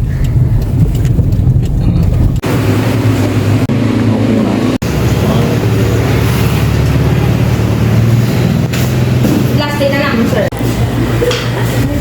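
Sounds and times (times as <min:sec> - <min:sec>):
road noise: 0:00.0 - 0:12.0
vehicle engine running: 0:00.0 - 0:12.0.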